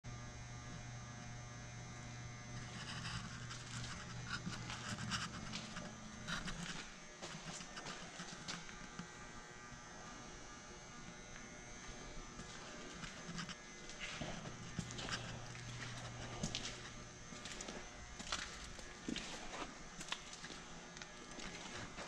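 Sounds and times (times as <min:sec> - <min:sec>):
low electrical hum: 0:00.1 - 0:22.0.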